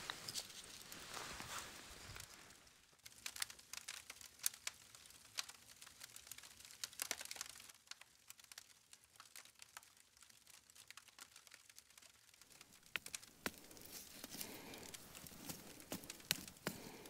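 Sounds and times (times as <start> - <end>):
charcoal fire crackling: 0.0 - 17.0.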